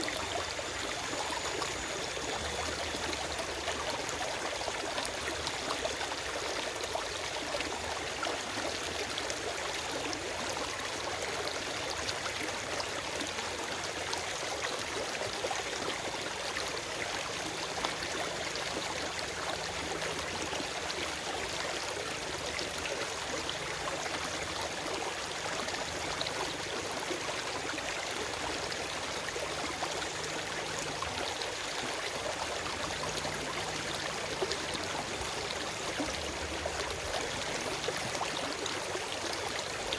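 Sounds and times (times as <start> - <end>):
stream gurgling over rocks: 0.0 - 39.9.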